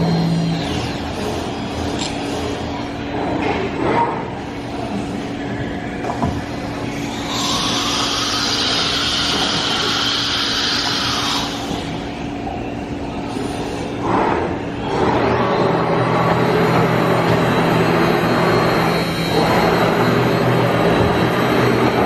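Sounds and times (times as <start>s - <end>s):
cnc router humming: 0.0s - 2.9s, 4.8s - 22.0s.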